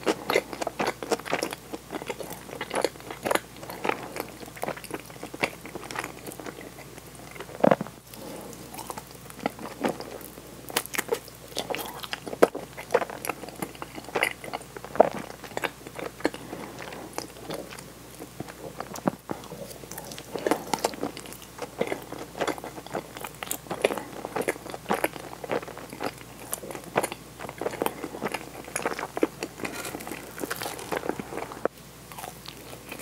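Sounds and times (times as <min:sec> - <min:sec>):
close chewing with mouth clicks: 0:00.0 - 0:33.0.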